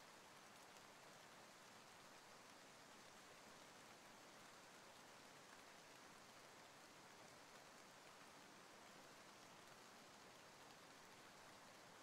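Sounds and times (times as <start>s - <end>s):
faint steady rain: 0.0s - 12.0s.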